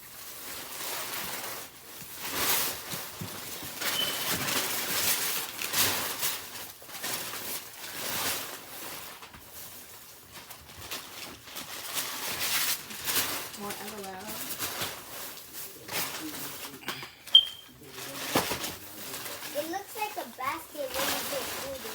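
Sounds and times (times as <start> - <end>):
paper and packaging rustling: 0.0 - 21.9.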